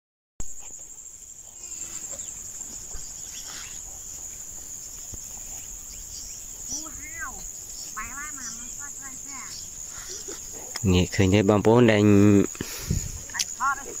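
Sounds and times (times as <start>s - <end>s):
high-pitched insect drone: 0.5s - 14.0s.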